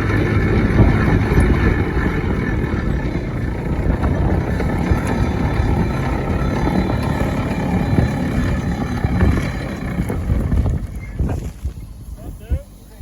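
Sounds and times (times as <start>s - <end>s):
steam engine rumbling: 0.0s - 13.0s.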